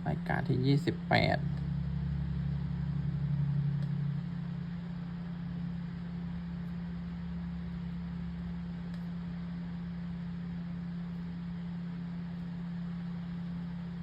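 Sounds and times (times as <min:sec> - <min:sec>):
machine hum with faint hiss: 0:00.0 - 0:14.0.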